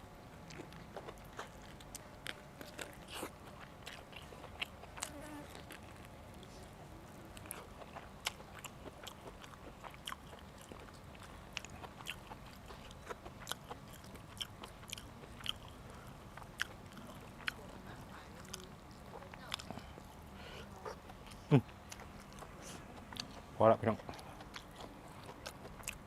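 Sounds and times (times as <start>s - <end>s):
person chewing: 0.4s - 6.4s, 7.3s - 17.6s, 18.4s - 20.2s, 20.8s - 26.0s
mouth clicks and crunches: 0.4s - 6.5s, 7.3s - 17.7s, 20.8s - 26.0s.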